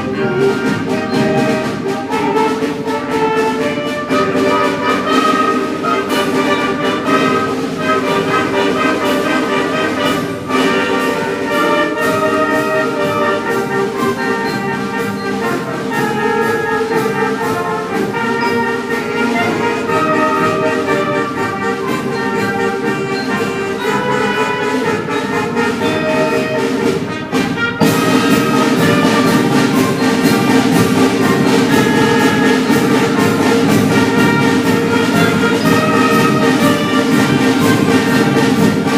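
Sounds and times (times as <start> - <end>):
concert band playing: 0.0 - 38.9.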